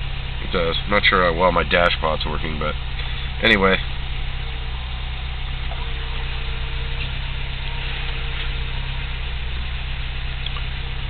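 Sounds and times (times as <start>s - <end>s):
car engine idling: 0.0s - 11.0s
exhaust pops: 0.0s - 11.0s.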